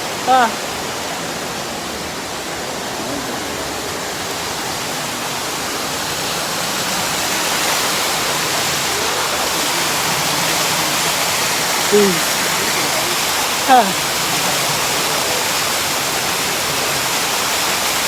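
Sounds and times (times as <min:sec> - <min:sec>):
waterfall rushing onto rocks: 0:00.0 - 0:18.0.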